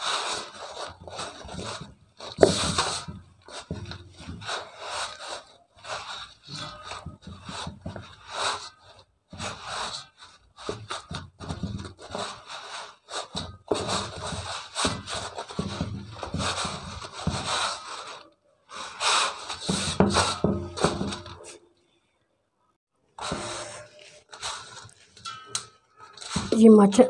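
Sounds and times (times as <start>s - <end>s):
hands rubbing dough on work surface: 0.0s - 21.6s, 23.2s - 26.8s.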